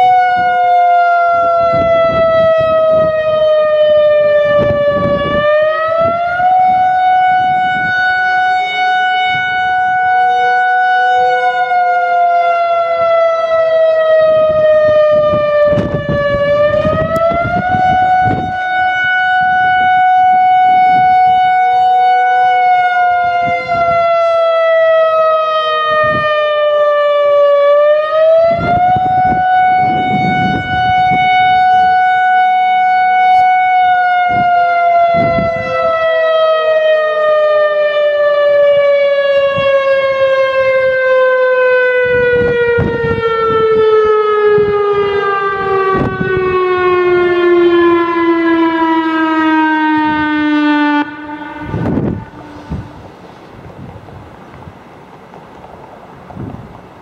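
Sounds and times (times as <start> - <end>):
warning siren wailing: 0.0 - 54.8.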